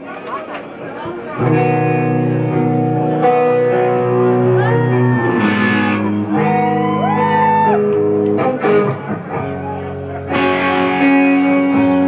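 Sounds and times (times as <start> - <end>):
electric guitar chords: 1.4 - 12.0.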